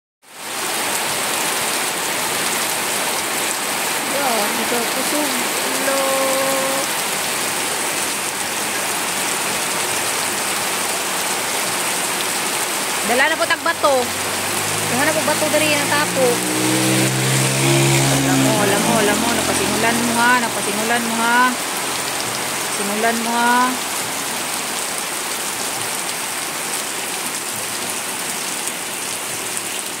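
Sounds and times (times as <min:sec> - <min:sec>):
heavy rain on wet road: 0:00.3 - 0:30.0.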